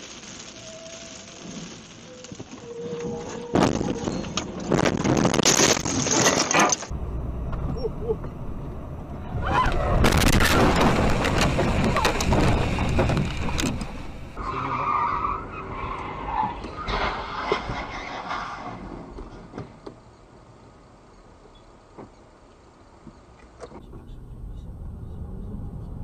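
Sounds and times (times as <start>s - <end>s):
car road noise: 1.1s - 26.0s.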